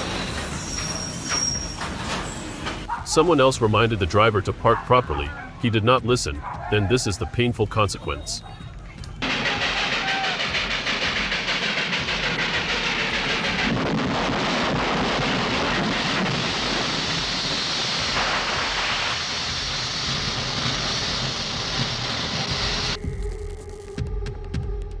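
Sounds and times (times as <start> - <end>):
train passing close by: 0.0 - 7.2, 7.8 - 23.0.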